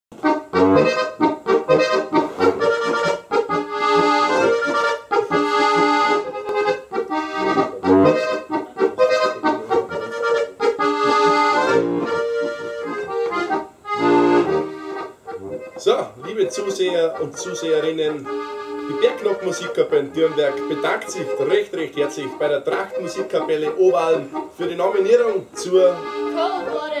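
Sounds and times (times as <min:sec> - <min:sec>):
accordion folk music: 0:00.1 - 0:27.0.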